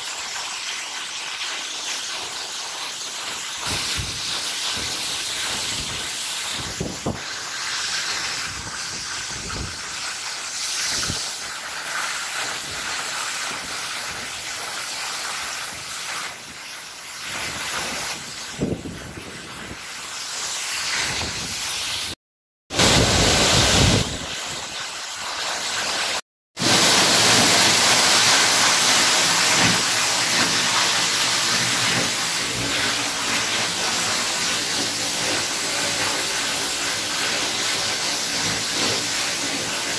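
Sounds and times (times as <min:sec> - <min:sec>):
rushing stream and waterfall: 0:03.4 - 0:39.9.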